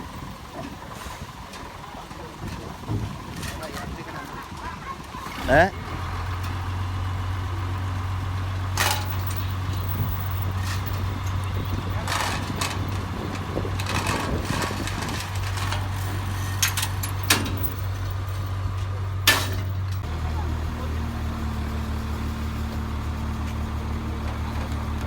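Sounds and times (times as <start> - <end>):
vehicle engine idling: 0.0 - 25.0
voices: 0.0 - 25.0.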